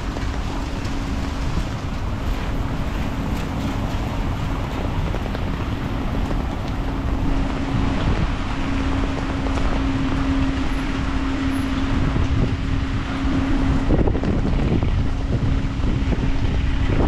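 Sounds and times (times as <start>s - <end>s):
low hum: 0.0s - 17.0s
low rumble: 0.0s - 17.0s
rain hissing: 0.0s - 17.0s.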